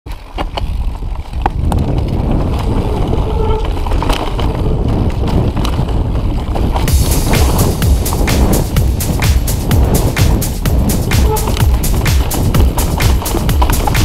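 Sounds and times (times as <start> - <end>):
bike clicks and knocks: 0.1 - 8.5, 11.0 - 14.0
wind and tyres rumbling: 0.1 - 14.0.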